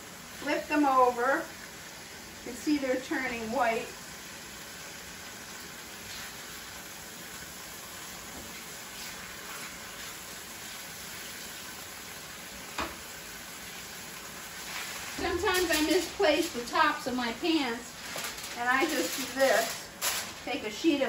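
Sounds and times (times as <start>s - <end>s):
fish sizzling in a frying pan: 0.0s - 21.0s.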